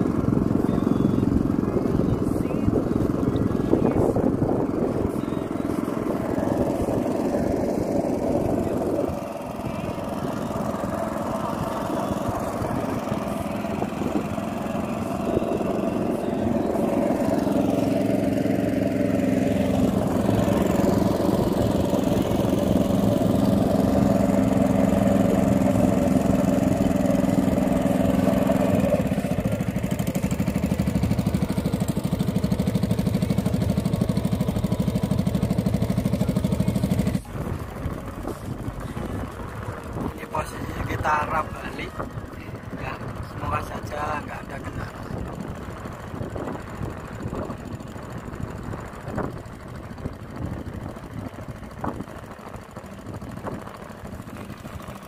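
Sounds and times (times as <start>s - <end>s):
boat engine running: 0.0s - 55.0s
wind and water noise: 0.0s - 55.0s.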